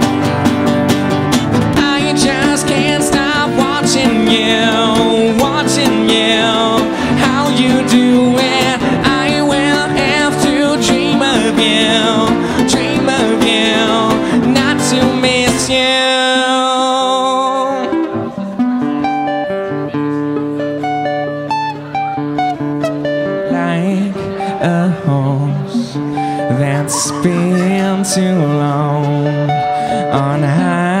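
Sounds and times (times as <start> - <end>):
acoustic guitars playing: 0.0 - 31.0.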